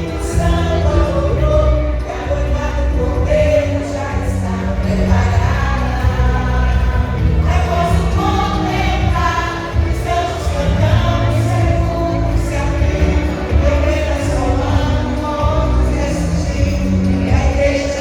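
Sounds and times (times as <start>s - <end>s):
amplified accompaniment with bass: 0.0s - 18.0s
vocal group singing gospel: 0.0s - 18.0s.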